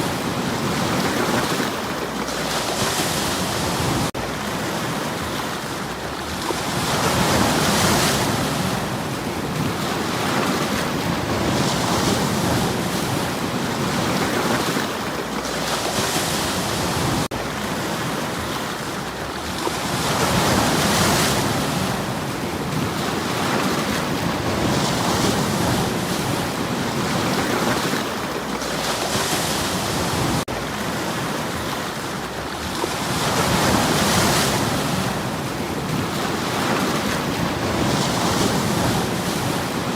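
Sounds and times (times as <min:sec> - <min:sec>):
waves washing on stony shore: 0:00.0 - 0:39.9.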